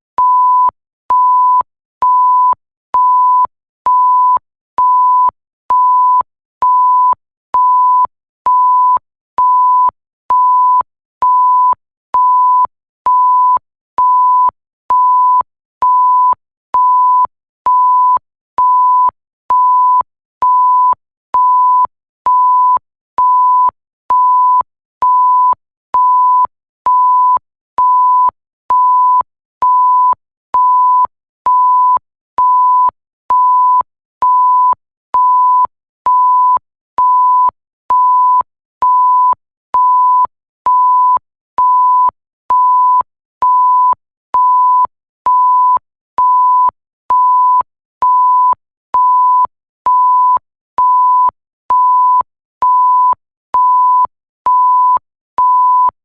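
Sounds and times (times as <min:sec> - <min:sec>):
censor bleep tone: 0:00.2 - 0:56.0.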